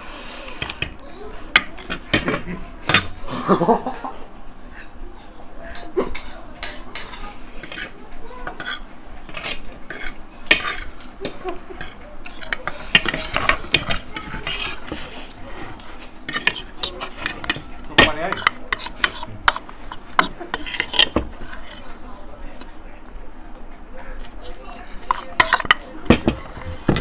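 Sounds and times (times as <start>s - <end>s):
cutlery scraping against plates: 0.0s - 22.8s, 24.0s - 27.0s.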